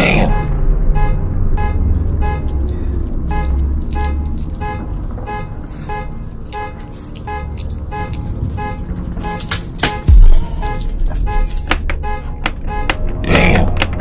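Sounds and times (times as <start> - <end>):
car horn honking alarm: 0.0 - 14.0.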